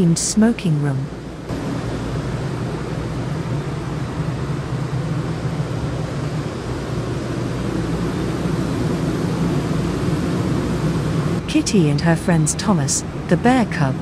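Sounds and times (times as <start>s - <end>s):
train running hum and hiss: 0.0s - 14.0s.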